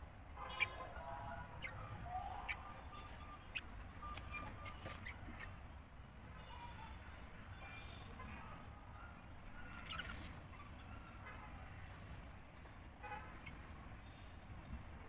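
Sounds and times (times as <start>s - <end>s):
cage birds chirping: 0.4s - 6.9s, 7.5s - 14.8s.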